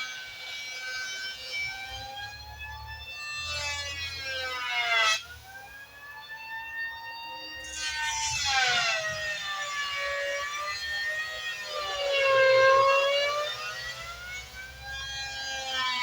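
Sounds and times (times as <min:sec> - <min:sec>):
electric planer motor whine: 0:00.0 - 0:16.0.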